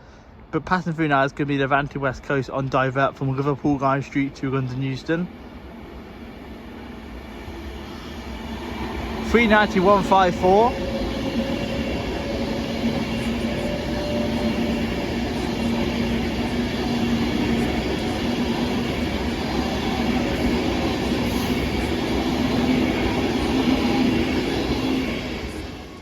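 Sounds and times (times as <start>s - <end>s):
train wheels rumbling on rail: 0.4s - 26.0s.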